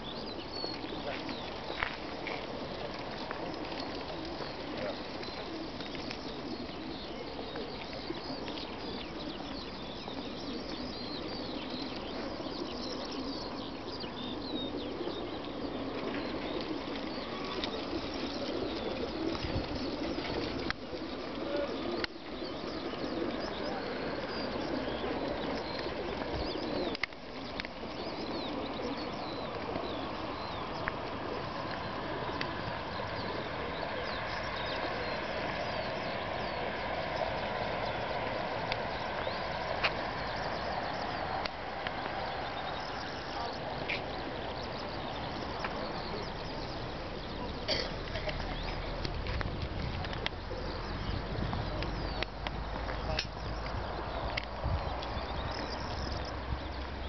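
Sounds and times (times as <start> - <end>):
pigeons cooing: 0.0 - 57.0
pigeon wings fluttering: 0.7 - 13.4, 14.7 - 50.8.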